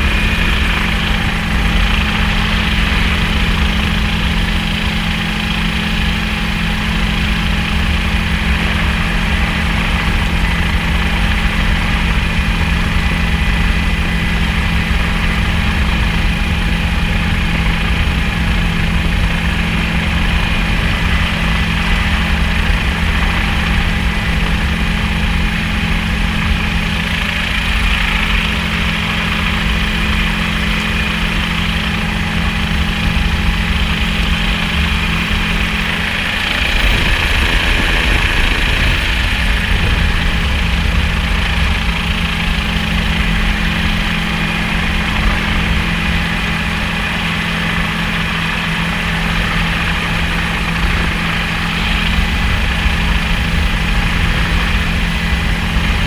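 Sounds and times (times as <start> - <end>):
helicopter drone: 0.0 - 56.0.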